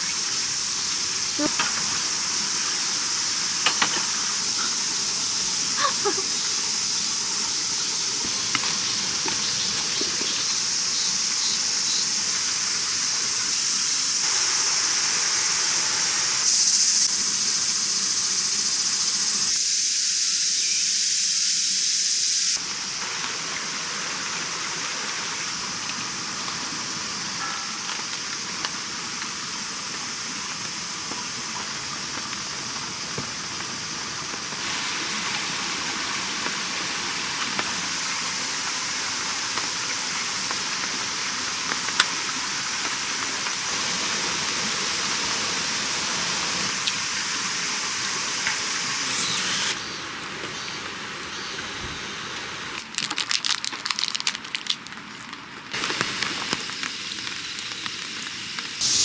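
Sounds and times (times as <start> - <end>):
steady hiss: 0.0 - 52.9, 55.7 - 59.0.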